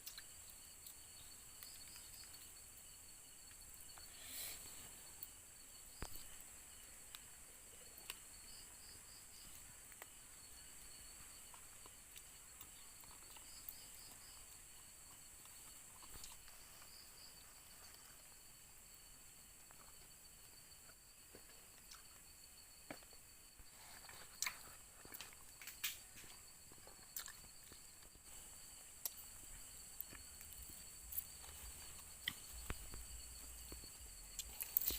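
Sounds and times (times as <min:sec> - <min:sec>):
crickets and night insects calling: 0:00.0 - 0:34.9.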